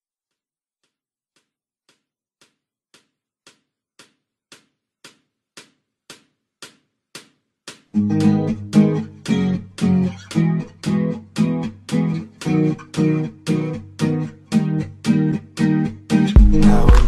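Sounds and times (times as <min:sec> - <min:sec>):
percussive ticks in music: 0:00.8 - 0:17.0.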